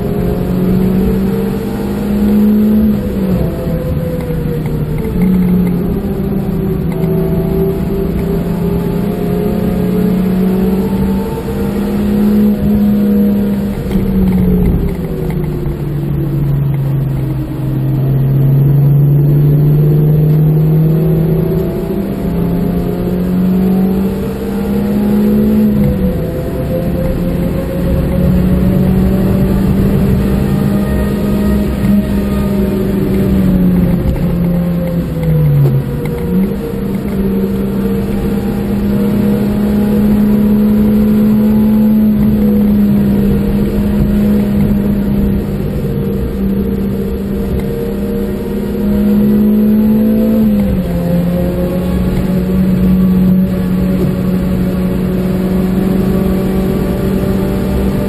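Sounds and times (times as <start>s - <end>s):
car engine running hard: 0.0s - 58.0s
road noise: 0.0s - 58.0s.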